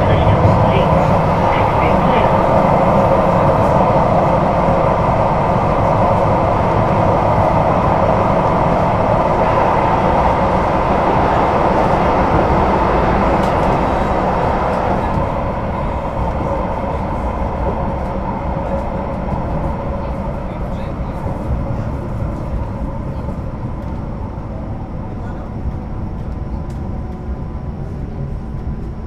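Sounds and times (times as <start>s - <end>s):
light rail wheels running: 0.0s - 24.3s.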